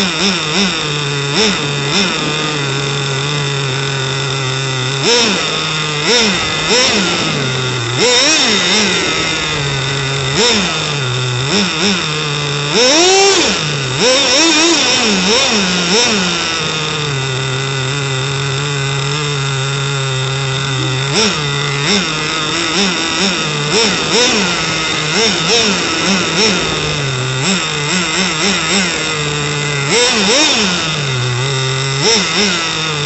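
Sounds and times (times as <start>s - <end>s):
small engine revving: 0.0s - 33.0s
steady high whine: 0.0s - 33.0s.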